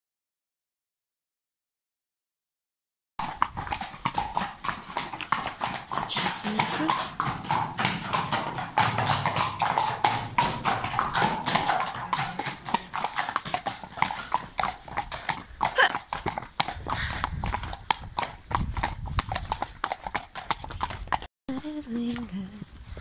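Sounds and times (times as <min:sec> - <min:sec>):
horse hooves clip-clopping on road: 0:03.2 - 0:23.0.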